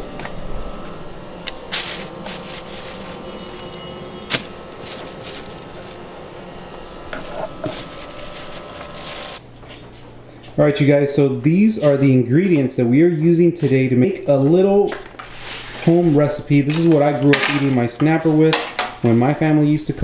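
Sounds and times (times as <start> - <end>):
steady hum: 0.0 - 17.3.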